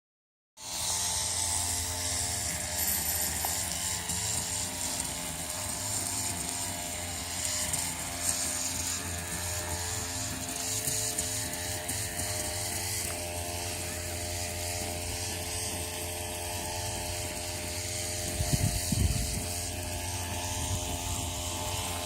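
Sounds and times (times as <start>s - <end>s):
machine humming: 0.6s - 22.0s.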